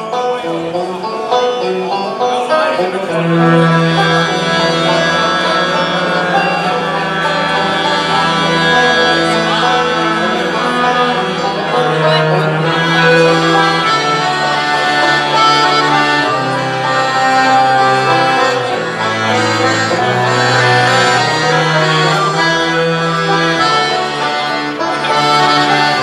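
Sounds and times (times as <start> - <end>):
banjo: 0.0 - 26.0
bluegrass band music: 0.0 - 26.0
deep held notes: 0.0 - 26.0.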